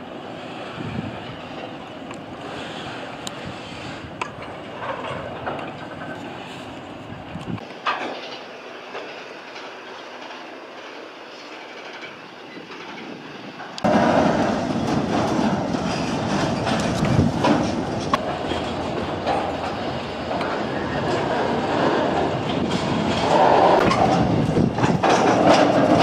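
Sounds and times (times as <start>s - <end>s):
freight train wheels clattering: 0.0s - 26.0s.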